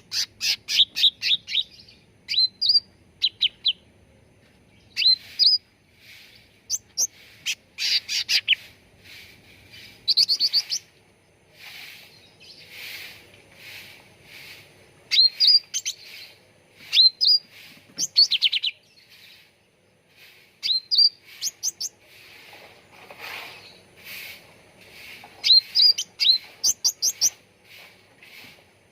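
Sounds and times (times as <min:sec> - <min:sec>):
soft bird chattering: 0:00.0 - 0:03.8, 0:04.9 - 0:10.9, 0:11.6 - 0:19.5, 0:20.1 - 0:22.4, 0:23.6 - 0:28.6.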